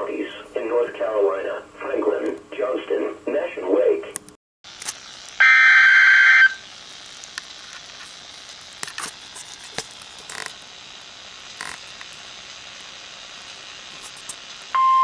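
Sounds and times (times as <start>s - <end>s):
radio hiss with crackles: 0.0s - 14.7s.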